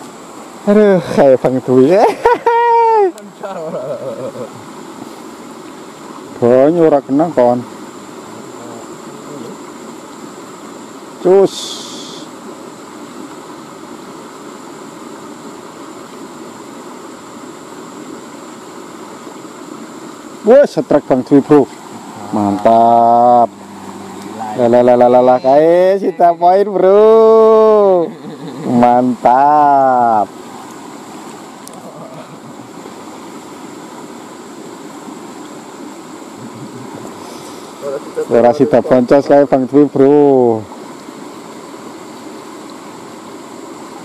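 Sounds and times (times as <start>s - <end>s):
river flowing over rocks: 0.0s - 44.0s.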